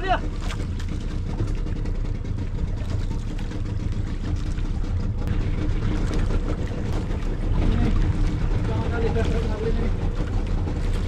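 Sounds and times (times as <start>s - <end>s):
boat motor running: 0.0s - 11.0s
water washing along hull: 0.0s - 11.0s.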